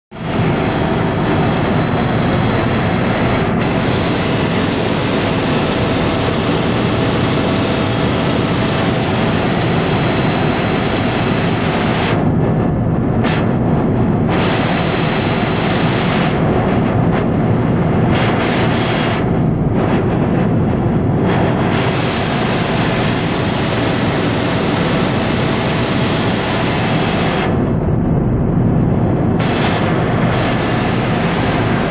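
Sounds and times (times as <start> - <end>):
helicopter engine and rotor drone: 0.1 - 31.9.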